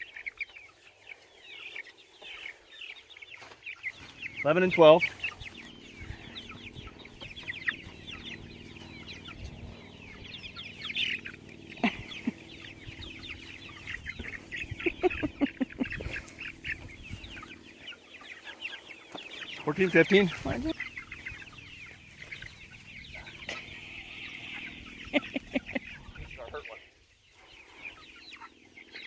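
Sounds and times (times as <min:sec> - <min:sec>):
chicks clucking and peeping: 0:00.0 - 0:29.0.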